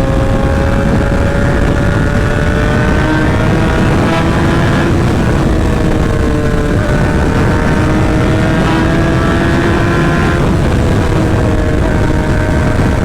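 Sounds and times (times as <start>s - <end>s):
motorcycle engine at high revs: 0.0s - 13.0s
wind and road noise: 0.0s - 13.0s.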